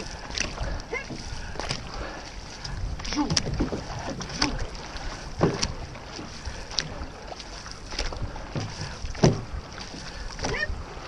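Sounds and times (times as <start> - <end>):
paddles splashing in water: 0.0 - 11.0
rushing water: 0.0 - 11.0
wind: 0.0 - 11.0.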